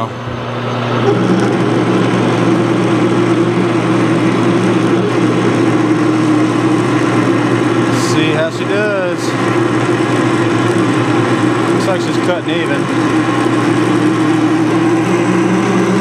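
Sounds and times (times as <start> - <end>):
metal lathe humming: 0.0 - 16.0
drill bit cutting metal: 1.0 - 16.0.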